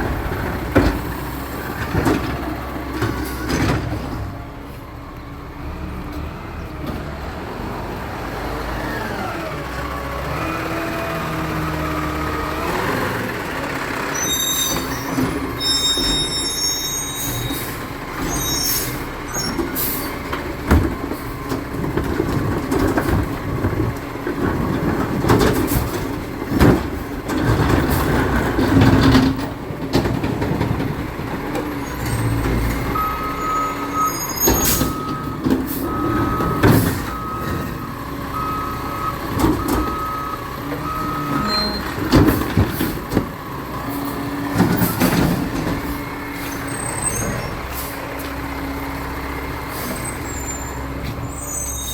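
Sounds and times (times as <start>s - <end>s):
truck diesel engine running: 0.0s - 51.9s.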